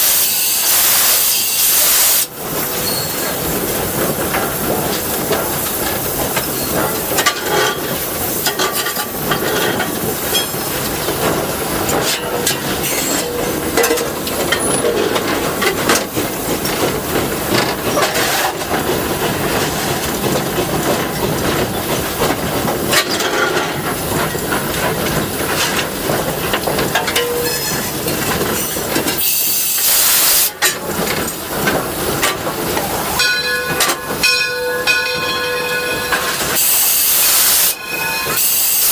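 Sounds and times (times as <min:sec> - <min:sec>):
steam locomotive hissing: 0:00.0 - 0:38.9
wheels clattering on rails: 0:02.2 - 0:38.9.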